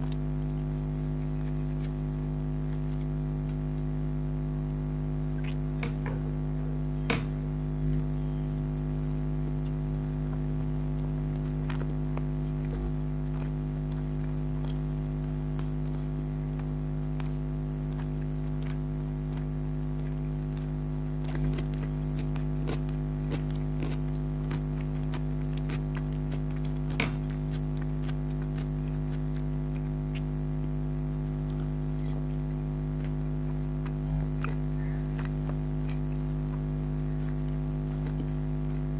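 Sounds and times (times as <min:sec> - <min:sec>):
wet chewing clicks and smacks: 0:00.0 - 0:06.4, 0:07.1 - 0:38.9
low electrical hum: 0:00.0 - 0:38.9.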